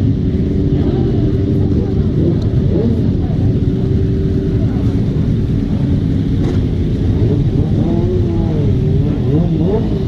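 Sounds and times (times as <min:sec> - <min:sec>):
motorcycle engine revving: 0:00.0 - 0:10.0
motorcycle engines running: 0:00.0 - 0:10.0.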